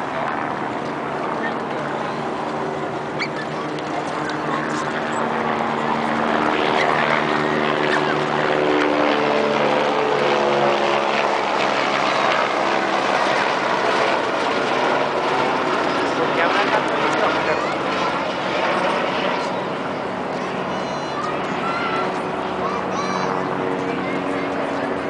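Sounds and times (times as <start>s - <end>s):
city noise: 0.0s - 25.0s
motor drone: 0.0s - 25.0s
wind: 0.0s - 25.0s.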